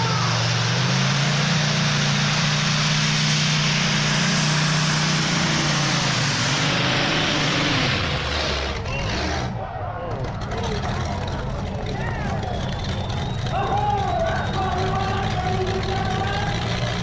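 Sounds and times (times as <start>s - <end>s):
tractor engines droning at full power: 0.0s - 17.0s.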